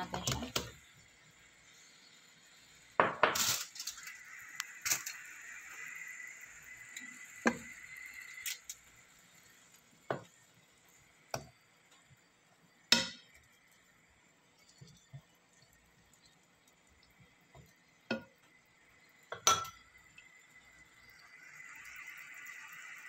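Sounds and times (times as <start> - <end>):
faint frying sizzle: 0.0 - 23.0.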